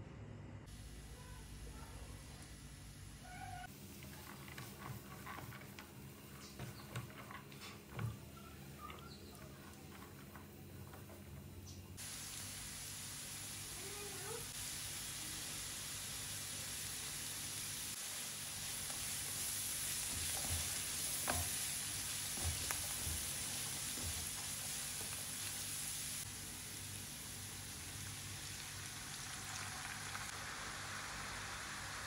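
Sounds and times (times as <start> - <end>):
vegetables sizzling in oil: 0.7 - 32.0.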